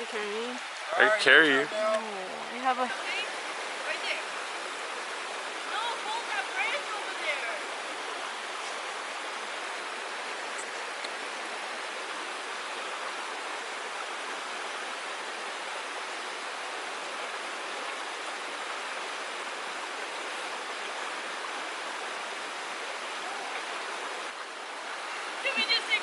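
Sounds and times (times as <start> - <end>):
creek water flowing: 0.0 - 26.0.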